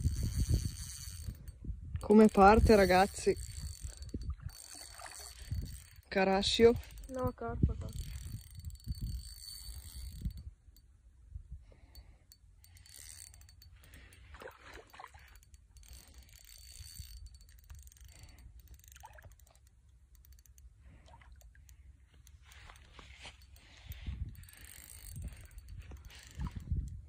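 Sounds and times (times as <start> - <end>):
fishing reel clicking: 0.0 - 10.9, 11.7 - 27.0.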